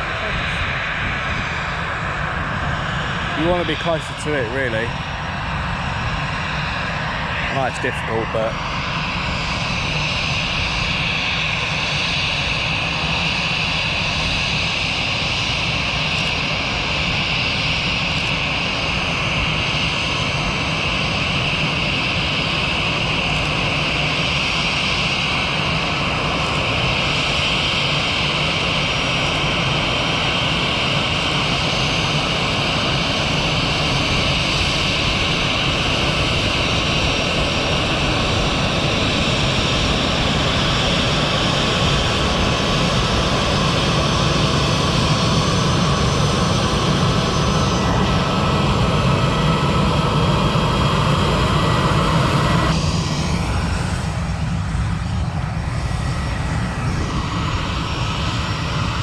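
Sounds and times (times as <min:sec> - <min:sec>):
aircraft engines running: 0:00.0 - 0:59.0.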